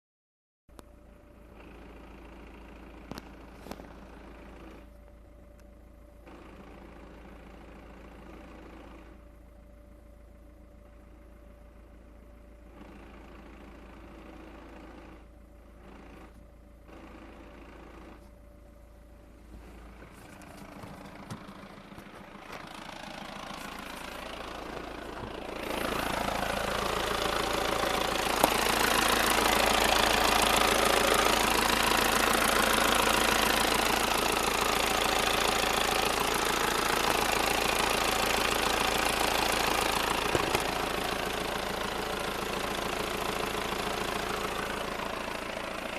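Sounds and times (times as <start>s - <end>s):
diesel engine idling with knock: 0.7s - 45.9s.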